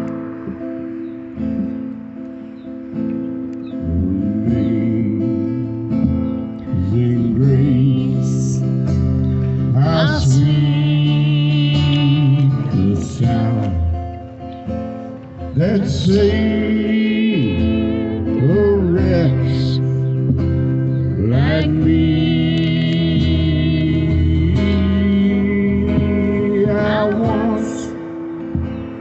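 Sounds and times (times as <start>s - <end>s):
acoustic guitar strumming: 0.0s - 29.0s
man singing: 3.7s - 14.5s, 15.3s - 29.0s.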